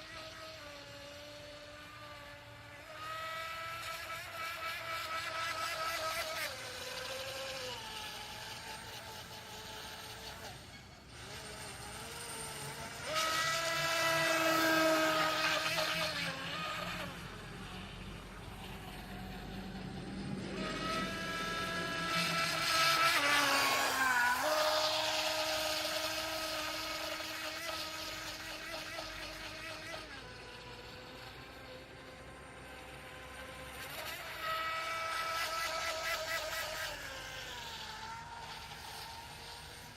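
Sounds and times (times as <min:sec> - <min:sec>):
model boat motor whining: 0:00.0 - 0:39.9.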